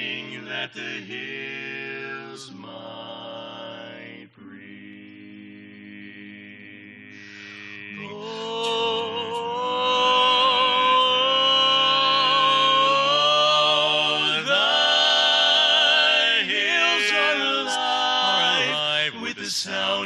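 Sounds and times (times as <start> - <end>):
male quartet singing a cappella: 0.0 - 20.0.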